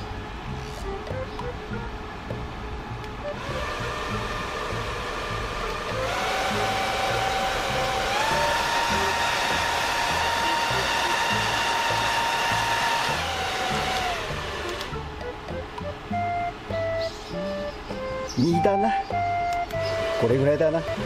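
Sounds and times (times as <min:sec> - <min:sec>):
fan whine over rushing air: 0:00.0 - 0:21.0.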